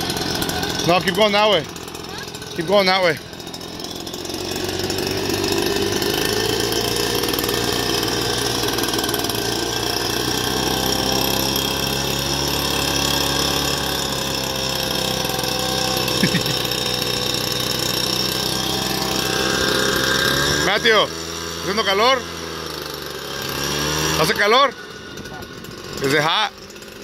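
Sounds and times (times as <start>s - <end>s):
leaf blower running: 0.0s - 27.0s.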